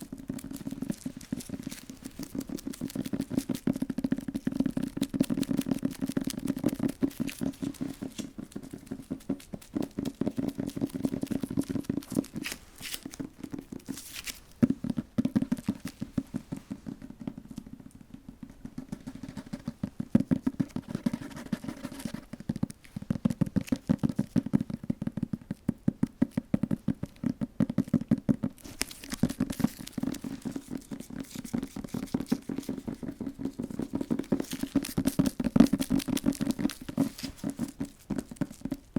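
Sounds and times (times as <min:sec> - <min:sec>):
rapid light tapping on object: 0:00.0 - 0:38.9.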